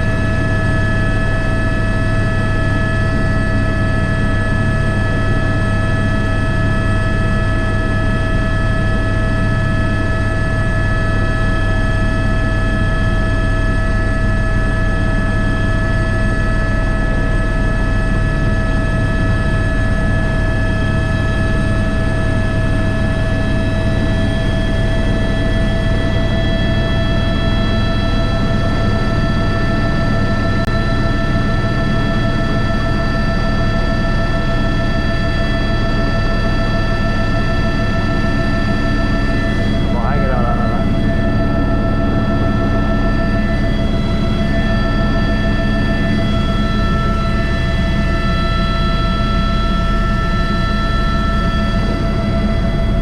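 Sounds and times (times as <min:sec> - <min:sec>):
helicopter rotor drone: 0:00.0 - 0:53.0.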